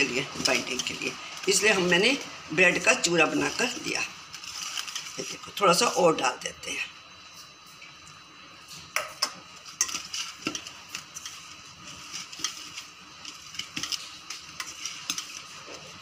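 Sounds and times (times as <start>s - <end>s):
hand kneading potato mixture: 0.0s - 6.8s, 9.8s - 16.0s.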